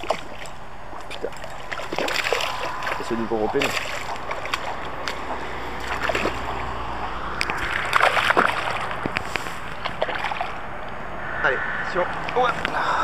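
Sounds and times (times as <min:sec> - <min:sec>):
water splashing and sloshing: 0:00.0 - 0:11.2.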